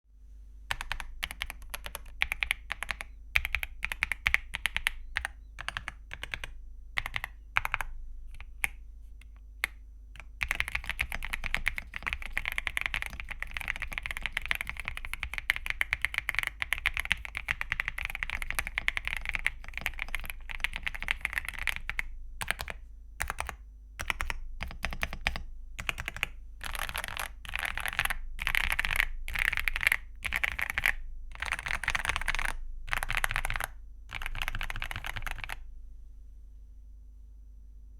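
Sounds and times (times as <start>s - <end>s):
mechanical keyboard typing: 0.7s - 35.6s.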